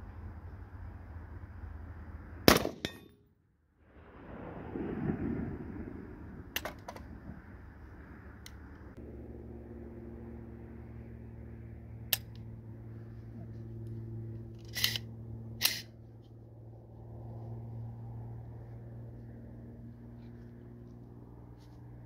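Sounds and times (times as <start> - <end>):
steady low hum: 3.9 - 22.0.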